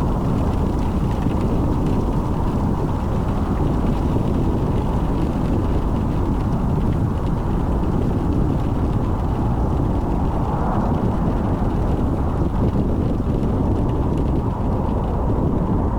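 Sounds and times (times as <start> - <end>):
car tyres on wet road: 0.0 - 15.9.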